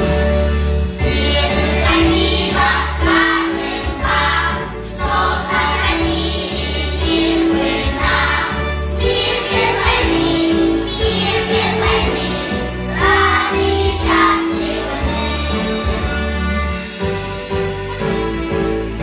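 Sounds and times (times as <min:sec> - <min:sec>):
recorded musical accompaniment: 0:00.0 - 0:19.0
children singing in unison: 0:01.0 - 0:16.3.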